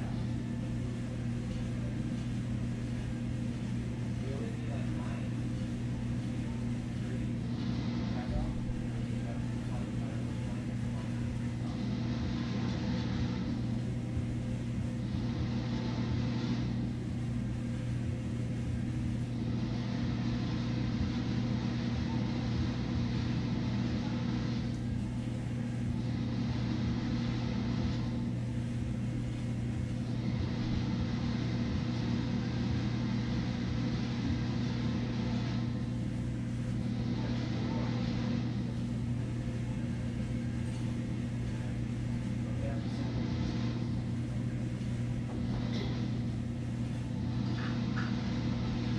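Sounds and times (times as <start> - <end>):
low machine hum: 0.0 - 48.9.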